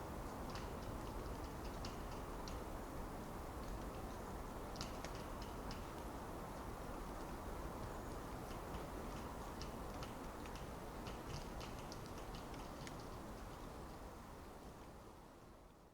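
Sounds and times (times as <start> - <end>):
wind rushing through trees: 0.0 - 15.9
light high ticks: 0.2 - 2.7, 3.5 - 14.0.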